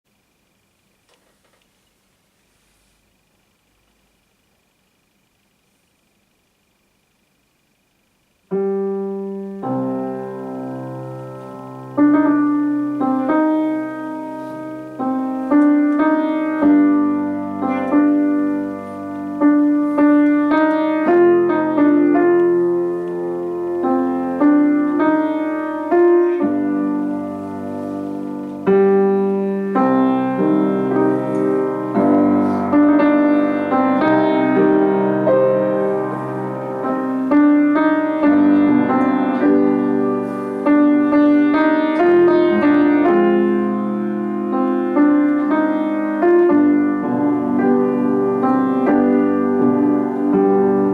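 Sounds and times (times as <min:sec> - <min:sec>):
solo piano classical piece: 0:02.6 - 0:50.9.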